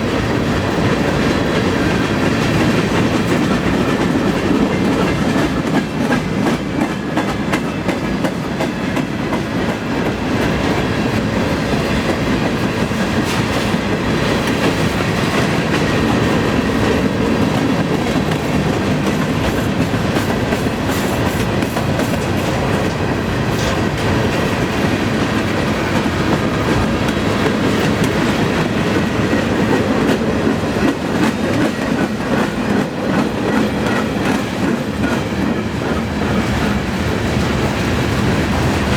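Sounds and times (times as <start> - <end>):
freight train rolling past: 0.0 - 38.9.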